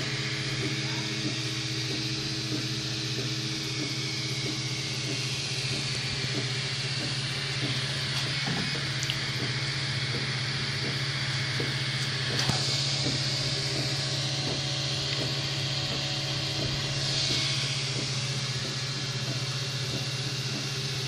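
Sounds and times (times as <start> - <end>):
fan hum: 0.0 - 21.0
stepper motor whirs: 0.0 - 21.0.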